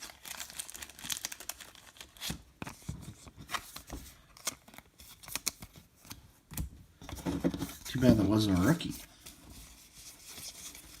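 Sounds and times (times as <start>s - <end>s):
cards and foil wrapper crinkling: 0.0s - 6.2s, 7.8s - 11.0s.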